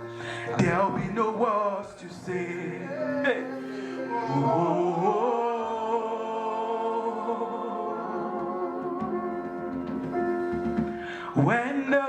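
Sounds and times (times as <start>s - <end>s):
gospel choir singing held chord: 0.0s - 12.0s.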